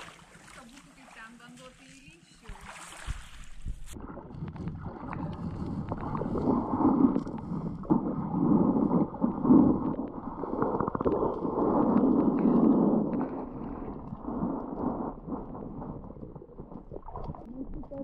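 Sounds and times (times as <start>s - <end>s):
muffled underwater wading: 0.0s - 18.0s.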